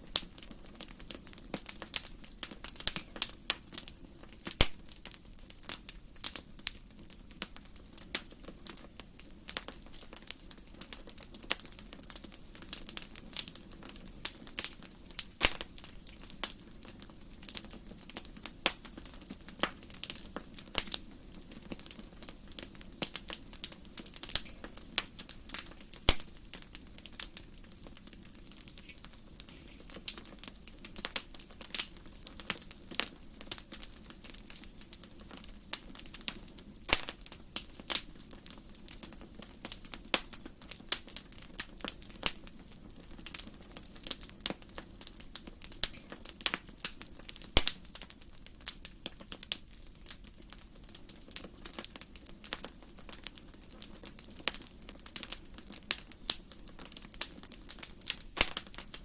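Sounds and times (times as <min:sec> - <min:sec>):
fireplace crackling and popping: 0:00.0 - 0:59.0
low hiss of fire: 0:00.0 - 0:59.0.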